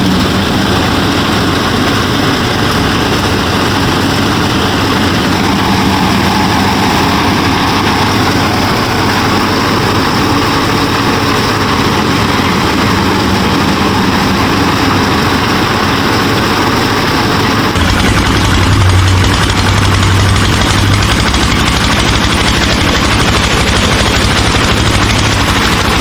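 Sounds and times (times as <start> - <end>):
motor humming and whirring: 0.0 - 26.0.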